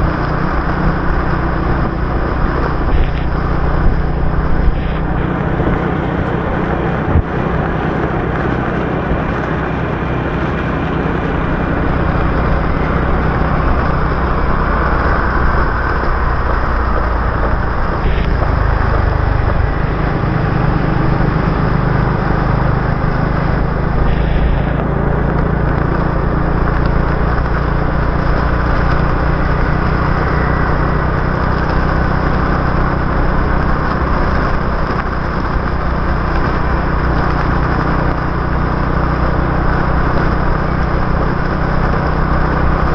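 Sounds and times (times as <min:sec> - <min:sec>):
high-pitched traffic sounds: 0:00.0 - 0:36.0
motorbike engine running: 0:00.0 - 0:42.9
road and rain hiss: 0:00.0 - 0:42.9.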